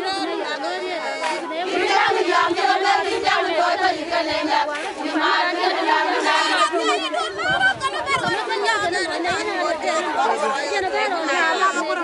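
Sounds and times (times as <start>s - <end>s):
women singing a chant: 0.0s - 12.0s.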